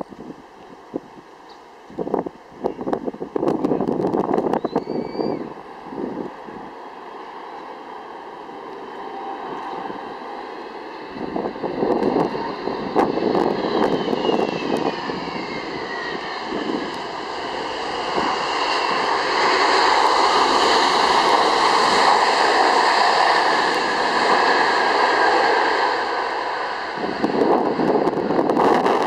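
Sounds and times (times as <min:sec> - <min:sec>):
jet engine whine: 0:00.0 - 0:29.0
jet roar: 0:00.0 - 0:29.0
wind buffeting microphone: 0:01.9 - 0:06.7, 0:08.9 - 0:29.0.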